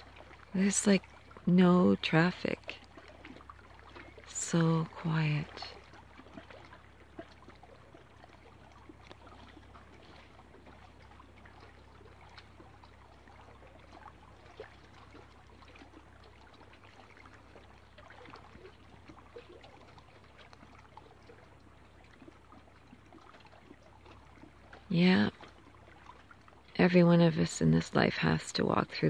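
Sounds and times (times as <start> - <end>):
small waves lapping: 0.0 - 29.0.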